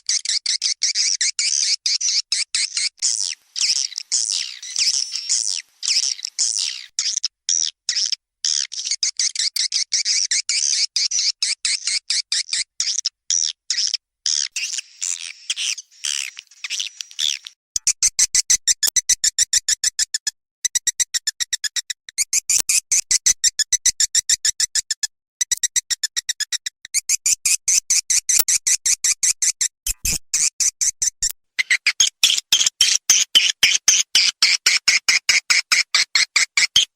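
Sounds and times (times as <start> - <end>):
recorded bird twittering and clicking: 0.0 - 36.9.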